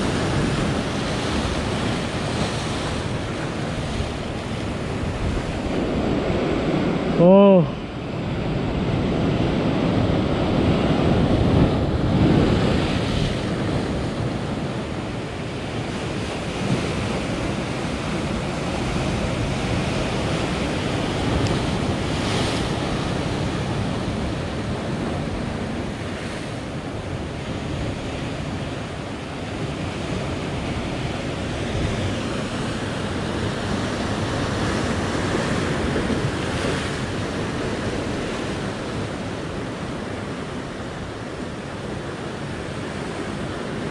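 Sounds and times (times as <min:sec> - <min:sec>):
surf washing over rocks: 0:00.0 - 0:43.9.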